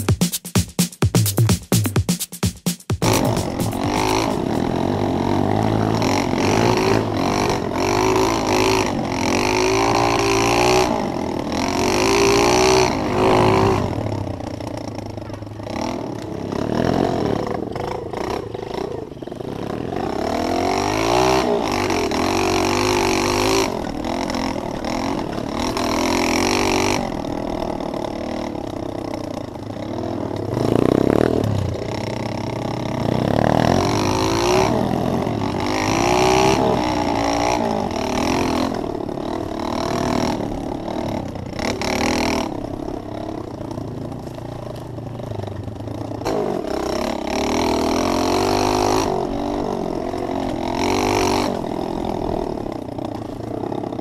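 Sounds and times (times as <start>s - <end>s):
pit bike engine revving: 2.9s - 54.0s.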